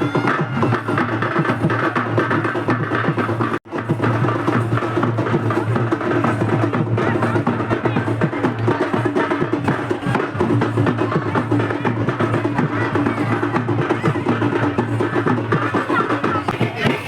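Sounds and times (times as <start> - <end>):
music with drums and clacking percussion: 0.0 - 17.0.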